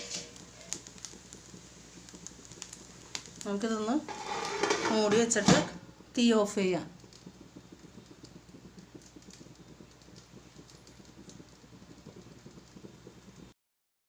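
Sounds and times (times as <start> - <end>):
hot pan crackling and ticking: 0.0 - 13.6.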